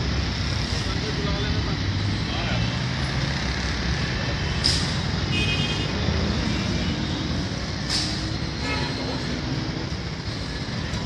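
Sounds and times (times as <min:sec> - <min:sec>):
street traffic engines: 0:00.0 - 0:11.0.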